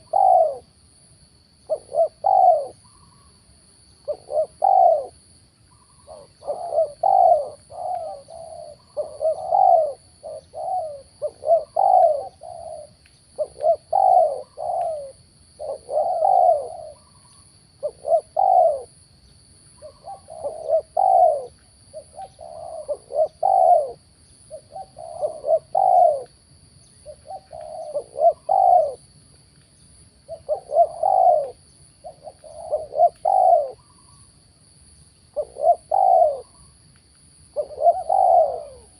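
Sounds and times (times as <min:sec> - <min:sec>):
doves cooing: 0:00.0 - 0:00.7, 0:01.7 - 0:03.3, 0:04.0 - 0:19.0, 0:19.7 - 0:26.3, 0:27.0 - 0:29.1, 0:30.3 - 0:34.2, 0:35.4 - 0:36.7, 0:37.5 - 0:38.9.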